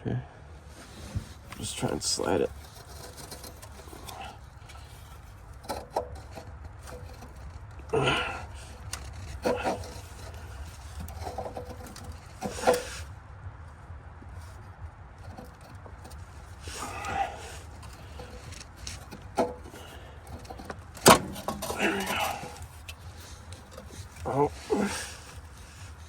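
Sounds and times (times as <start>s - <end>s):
metal scraping and knocking: 0.8s - 13.2s, 13.8s - 26.0s.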